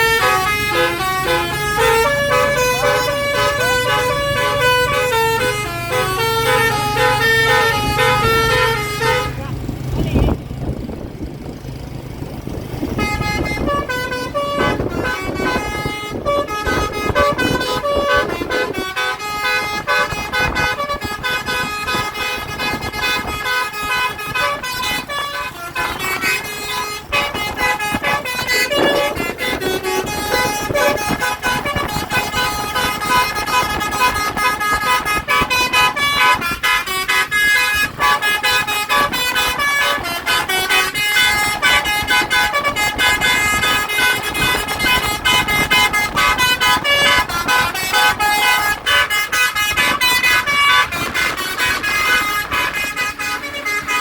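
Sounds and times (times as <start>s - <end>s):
multi-trumpet air horn tune: 0.0s - 10.4s, 12.9s - 54.0s
vehicle noise: 0.0s - 54.0s.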